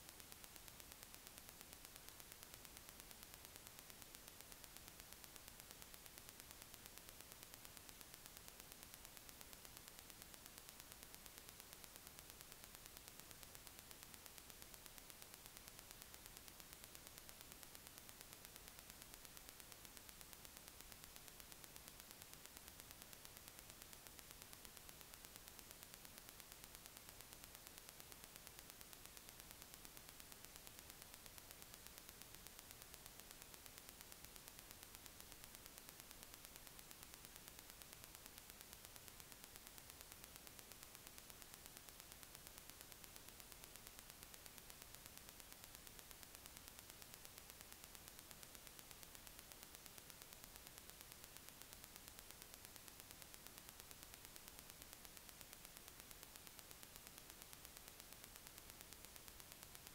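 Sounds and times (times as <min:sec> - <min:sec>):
faint recording hiss: 0:00.0 - 0:59.9.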